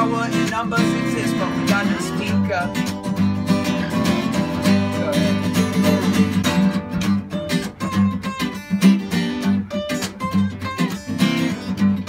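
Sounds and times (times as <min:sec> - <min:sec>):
acoustic guitar strumming: 0:00.0 - 0:12.0
slide guitar melody: 0:00.0 - 0:12.0.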